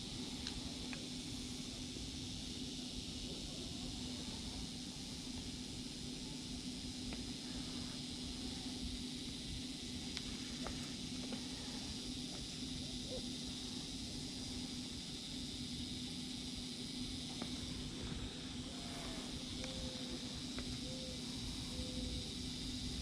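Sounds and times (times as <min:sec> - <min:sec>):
outdoor hum and hiss: 0:00.0 - 0:23.0.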